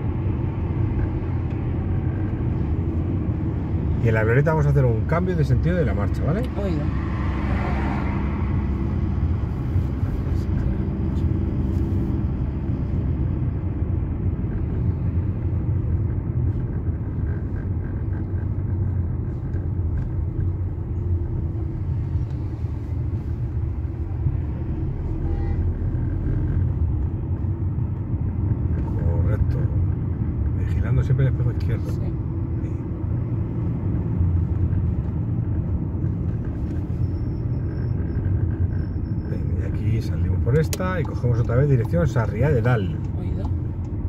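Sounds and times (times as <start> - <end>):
car engine and tyre rumble: 0.0 - 44.0
faint engine hum: 0.0 - 44.0.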